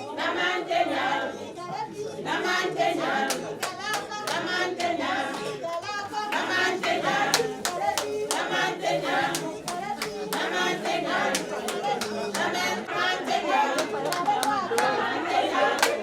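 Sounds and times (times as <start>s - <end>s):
group singing: 0.0s - 16.0s
rhythmic hand clapping: 2.2s - 16.0s.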